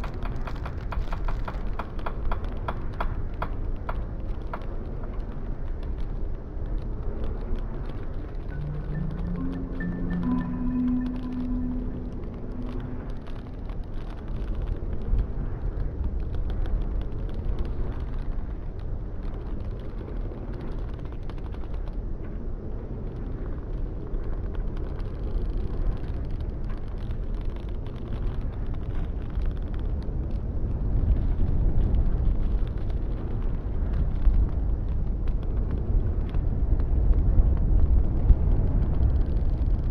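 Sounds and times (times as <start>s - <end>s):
wind rumble: 0.0s - 39.9s.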